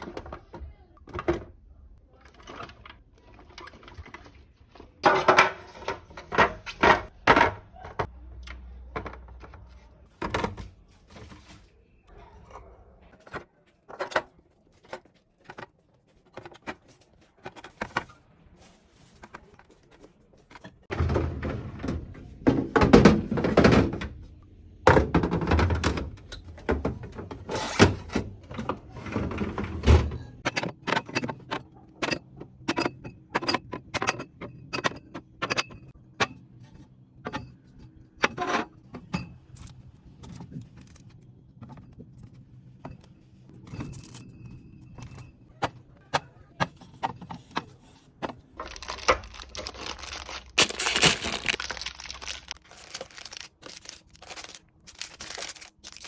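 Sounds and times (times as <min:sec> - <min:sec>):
clattering and handling: 0:00.0 - 0:08.1, 0:12.5 - 0:24.3, 0:24.9 - 0:56.0.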